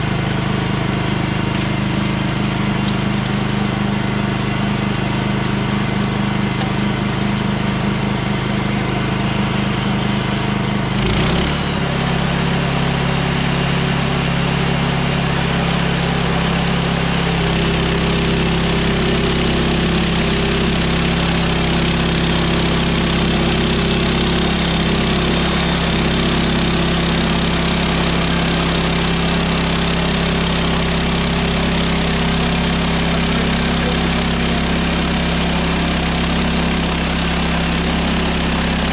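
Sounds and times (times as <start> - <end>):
gas engine running: 0.0 - 38.9.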